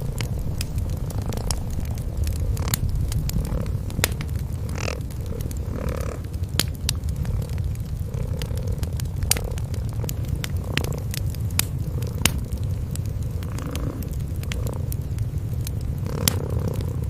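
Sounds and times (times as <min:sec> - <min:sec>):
cats purring: 0:00.0 - 0:17.0
wood fire crackling and popping: 0:00.0 - 0:17.0.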